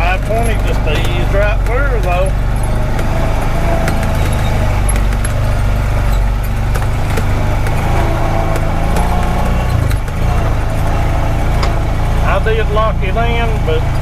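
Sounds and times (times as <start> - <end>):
knocks and rattles: 0.0 - 14.0
utility vehicle engine running: 0.0 - 14.0.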